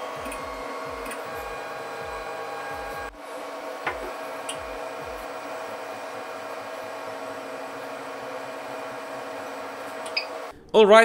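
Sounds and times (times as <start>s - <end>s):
stepper motors whining: 0.0s - 10.6s.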